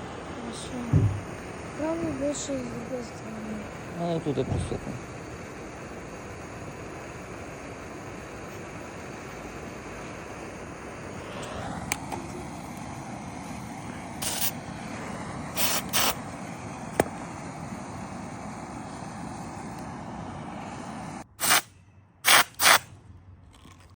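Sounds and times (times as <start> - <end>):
spray gun hissing bursts: 0.0 - 22.8
steady background noise: 0.0 - 23.6.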